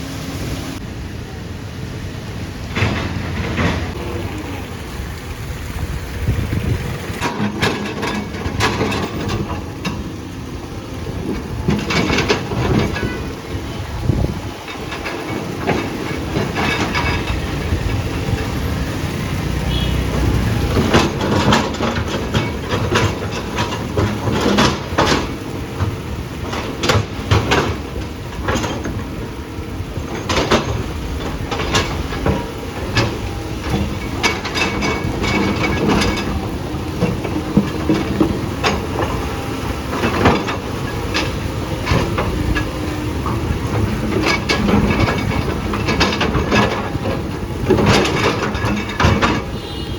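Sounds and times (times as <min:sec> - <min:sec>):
earthmoving machine engine rumble: 0:00.0 - 0:49.7
tracks and bucket clanking: 0:02.0 - 0:49.9.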